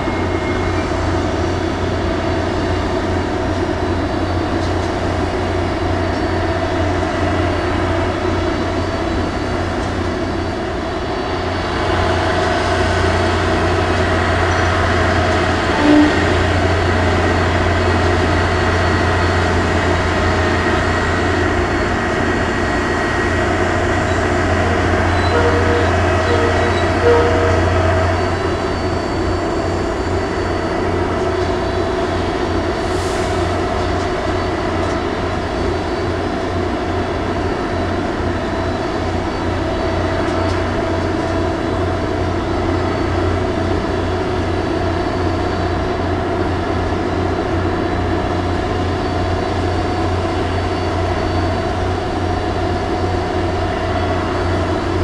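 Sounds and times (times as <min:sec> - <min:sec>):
crane winch humming: 0:00.0 - 0:55.0.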